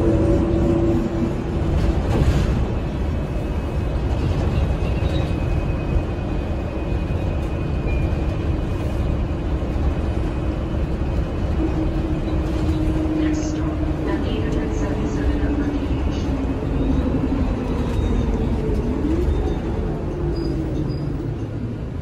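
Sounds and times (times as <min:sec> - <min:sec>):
bus engine drone: 0:00.0 - 0:22.0
road rumble: 0:00.0 - 0:22.0.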